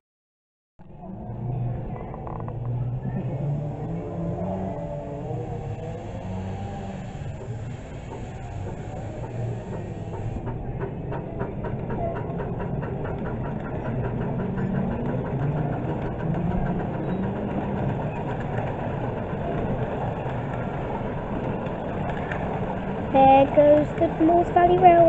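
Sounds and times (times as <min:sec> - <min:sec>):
carriages rolling rumble: 0:00.9 - 0:25.0
steam train chuffing beat: 0:04.9 - 0:25.0.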